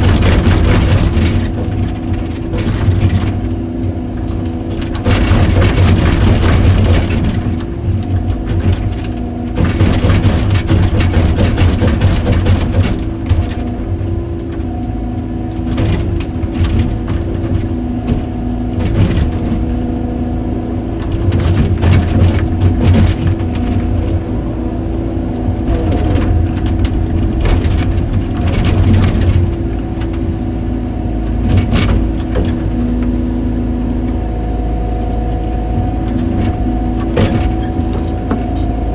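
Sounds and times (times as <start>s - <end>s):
knocking and clatter: 0.0s - 20.0s, 20.9s - 30.4s, 31.4s - 33.2s, 35.7s - 38.8s
excavator diesel engine running: 0.0s - 38.9s.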